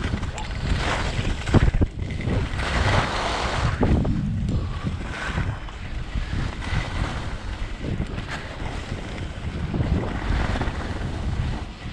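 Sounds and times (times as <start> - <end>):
wind buffeting microphone: 0.0 - 11.9
skis scraping across snow: 0.1 - 11.9.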